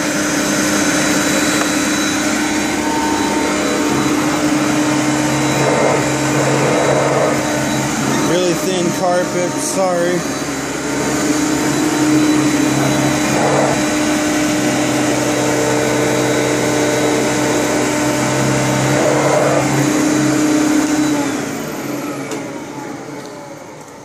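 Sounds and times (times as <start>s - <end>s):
vacuum cleaner running: 0.0s - 24.0s
vacuum motor winding down: 0.0s - 24.0s.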